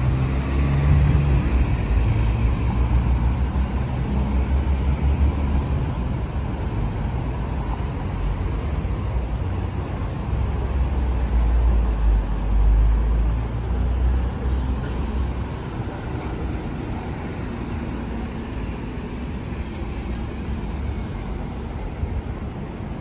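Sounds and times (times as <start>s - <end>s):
passing vehicles: 0.0s - 23.0s.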